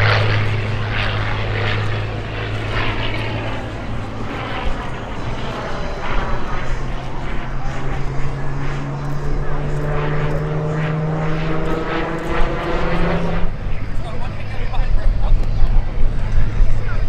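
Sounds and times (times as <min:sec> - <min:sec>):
propeller plane engine droning overhead: 0:00.0 - 0:17.0.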